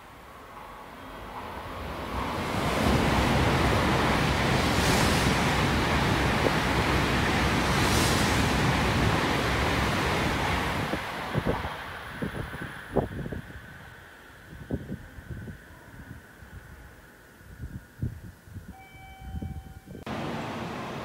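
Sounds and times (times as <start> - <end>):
high-speed train rushing roar: 0.0 - 16.1, 20.0 - 21.0.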